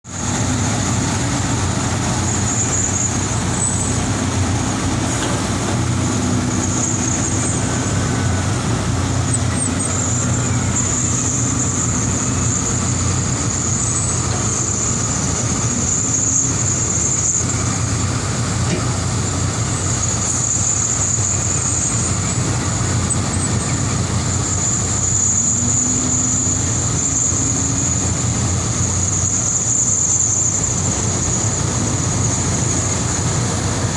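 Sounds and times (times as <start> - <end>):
excavator diesel engine: 0.0 - 33.9
high-pitched whine: 0.0 - 33.9.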